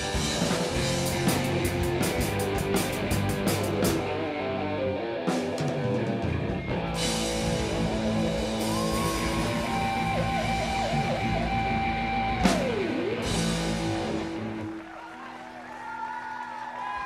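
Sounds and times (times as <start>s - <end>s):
live rock band: 0.0s - 16.7s
lead guitar pitch dives: 0.1s - 14.7s.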